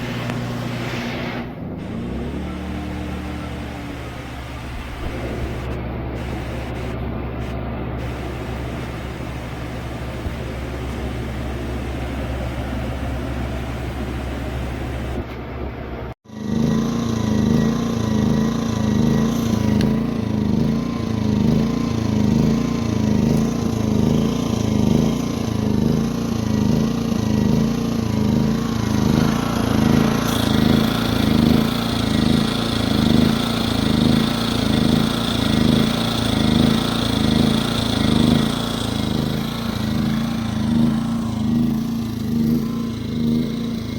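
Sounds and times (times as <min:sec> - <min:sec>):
generator running: 0:00.0 - 0:43.9.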